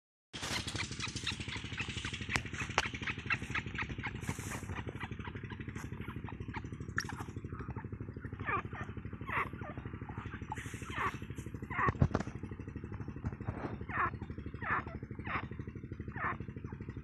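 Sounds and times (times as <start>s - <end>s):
small engine running: 0.4s - 17.0s.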